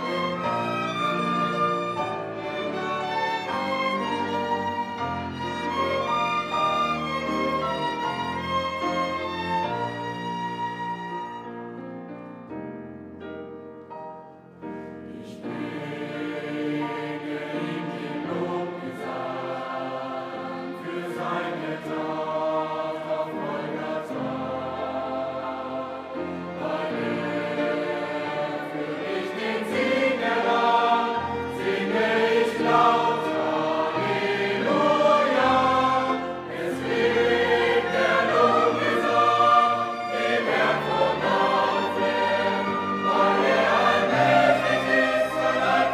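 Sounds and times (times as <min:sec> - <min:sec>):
choral singing: 0:00.0 - 0:11.1, 0:14.9 - 0:45.9
sustained accompaniment: 0:00.0 - 0:12.1, 0:14.7 - 0:45.9.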